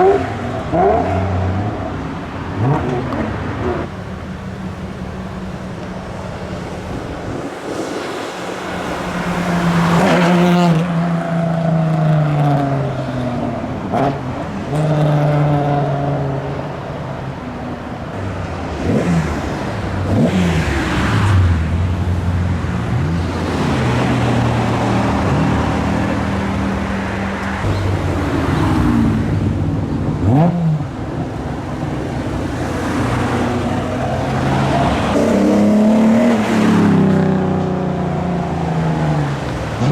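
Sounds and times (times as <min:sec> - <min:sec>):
car engines revving and pulling away: 0:00.0 - 0:39.9.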